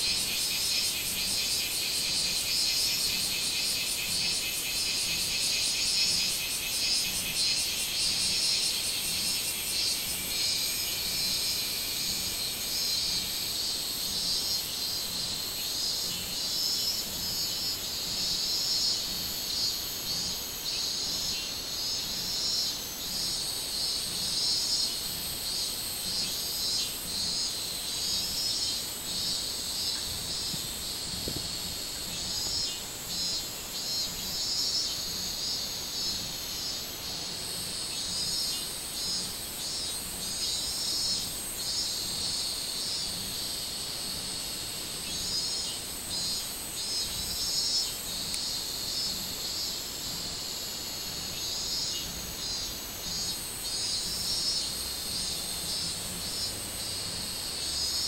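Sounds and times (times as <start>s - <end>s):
cicadas chorus: 0.0s - 58.0s.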